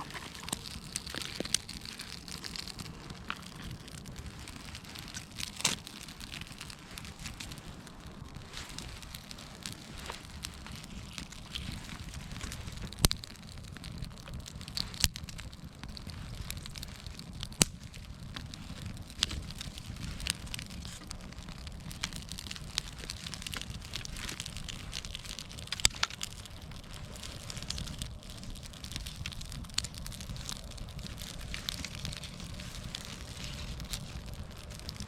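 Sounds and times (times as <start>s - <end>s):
campfire crackling and popping: 0.0s - 35.0s
low steady fire rumble: 0.0s - 35.0s.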